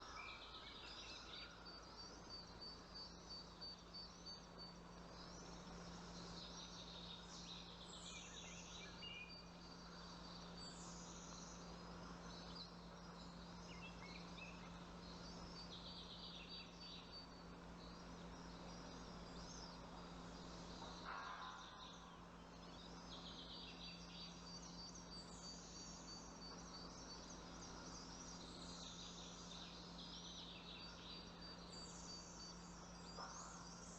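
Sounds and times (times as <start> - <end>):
low steady hum: 0.0 - 33.9
small birds chirping: 0.0 - 33.9.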